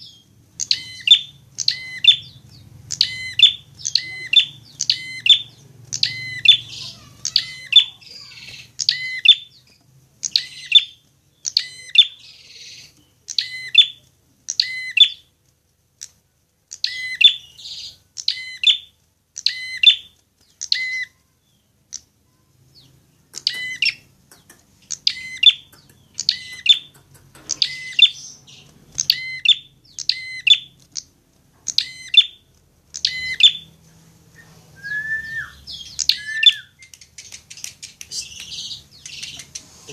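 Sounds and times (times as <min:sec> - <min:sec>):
bird chirping: 0:00.0 - 0:15.4, 0:16.0 - 0:39.9.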